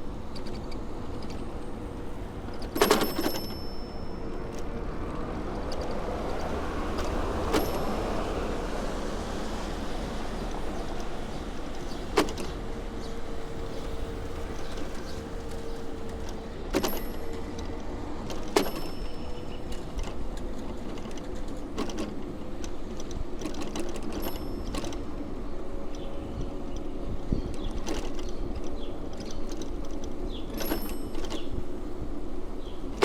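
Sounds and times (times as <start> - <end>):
bicycle rolling on road: 0.0 - 33.0.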